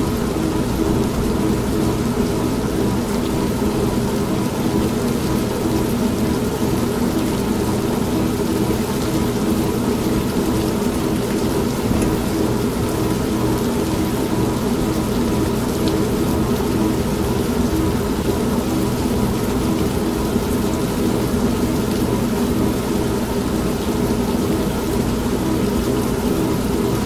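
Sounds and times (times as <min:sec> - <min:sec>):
steady rain: 0:00.0 - 0:27.0
washing machine humming: 0:00.0 - 0:27.0.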